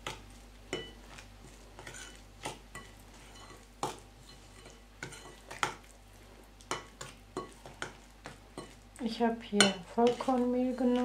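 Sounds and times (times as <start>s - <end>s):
spoon stirring dough in a bowl: 0.0s - 11.0s.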